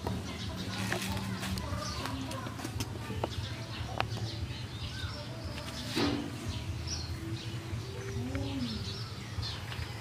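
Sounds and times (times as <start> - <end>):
small birds chirping faintly: 0.0 - 10.0.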